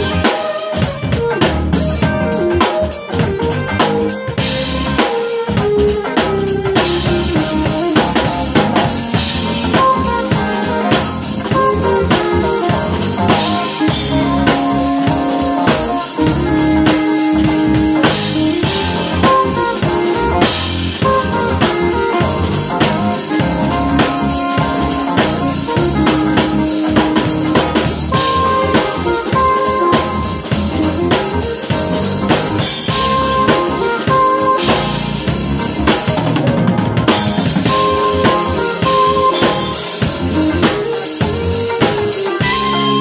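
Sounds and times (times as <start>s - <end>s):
drum kit: 0.0s - 43.0s
keyboard: 0.0s - 43.0s
saxophone: 0.0s - 43.0s.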